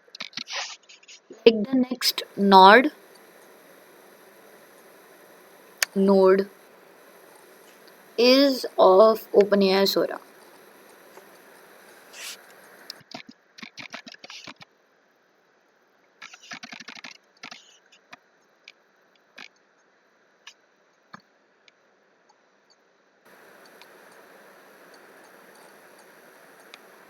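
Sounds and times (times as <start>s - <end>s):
soft hiss: 0.0s - 16.6s, 17.4s - 27.0s.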